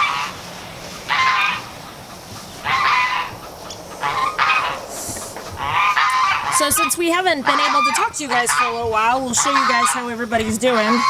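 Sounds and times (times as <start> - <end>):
farm animal calling: 0.0 - 11.0.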